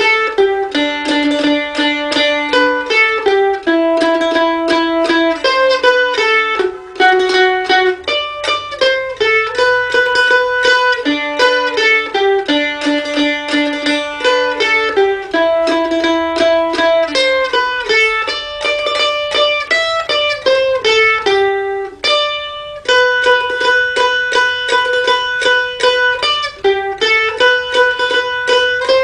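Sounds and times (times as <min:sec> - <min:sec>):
tremolo plucked string melody: 0:00.0 - 0:29.0.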